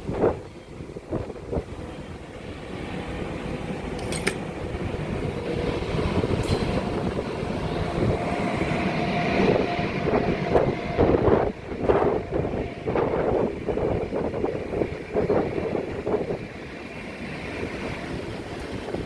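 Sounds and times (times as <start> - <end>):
train rumble and rail noise: 0.0 - 19.0.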